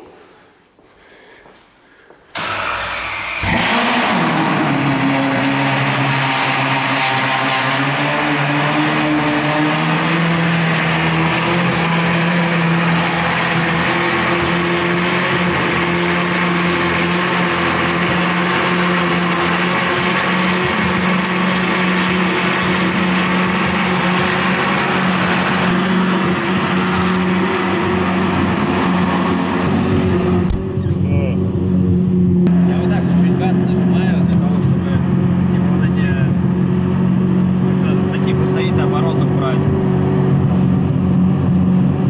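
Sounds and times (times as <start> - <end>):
car engine running steadily: 3.4 - 42.0.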